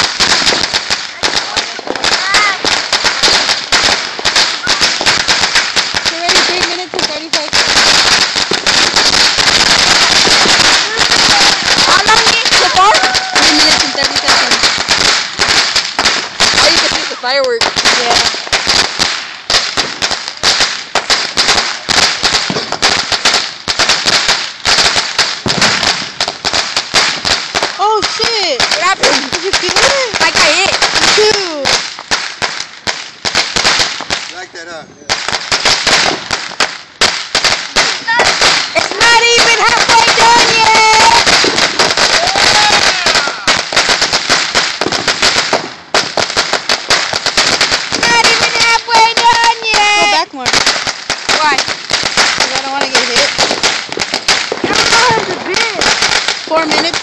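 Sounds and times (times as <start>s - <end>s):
firecrackers going off: 0.0s - 57.0s.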